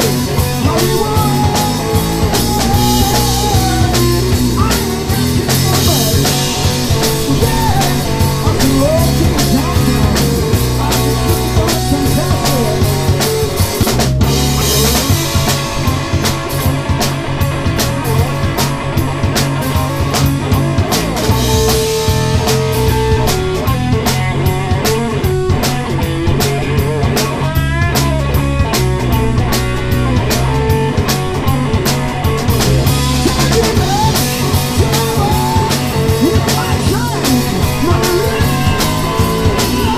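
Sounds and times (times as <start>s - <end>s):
drum kit with cymbals: 0.0s - 39.9s
electric guitars: 0.0s - 39.9s
steady low bass notes: 0.0s - 39.9s.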